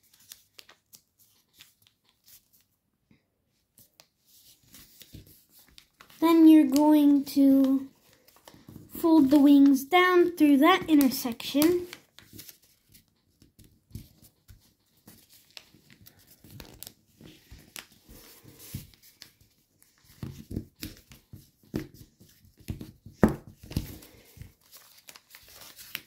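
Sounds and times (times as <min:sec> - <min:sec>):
sharp paper crackle: 0:00.0 - 0:02.7, 0:03.8 - 0:26.0
paper crinkling and rustling: 0:00.0 - 0:02.8, 0:03.5 - 0:26.0.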